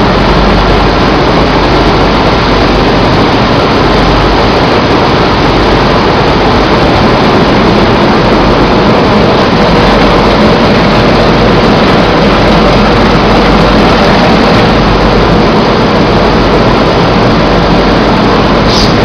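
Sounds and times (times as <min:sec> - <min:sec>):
mill machinery running: 0:00.0 - 0:19.0.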